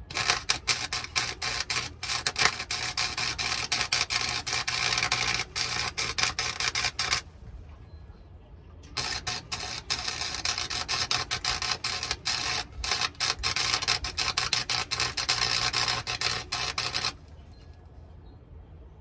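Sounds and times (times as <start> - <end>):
welding arc crackling: 0.0 - 7.2, 9.0 - 17.2.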